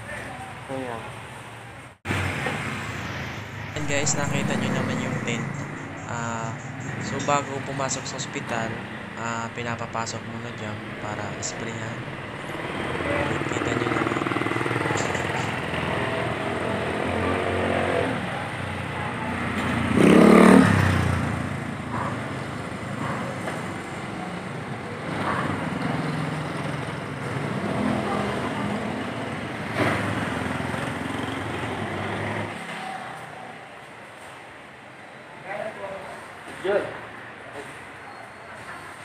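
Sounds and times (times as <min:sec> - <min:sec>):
vehicles passing on wet road: 0:00.0 - 0:09.2, 0:10.2 - 0:35.4
vehicle engines running: 0:00.0 - 0:35.4.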